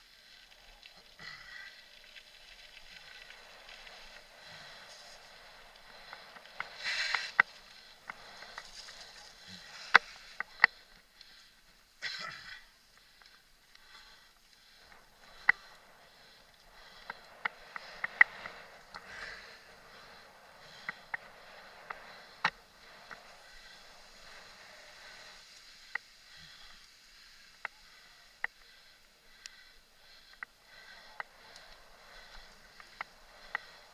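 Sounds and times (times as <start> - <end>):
wind and tyre noise: 0.0 - 12.0, 12.6 - 33.9
bike rattling over bumps: 1.2 - 12.0, 12.6 - 33.9.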